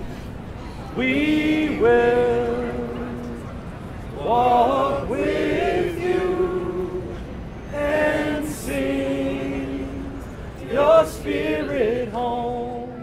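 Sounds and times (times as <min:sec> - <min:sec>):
a cappella voices chanting: 0:00.9 - 0:03.4, 0:04.2 - 0:13.0.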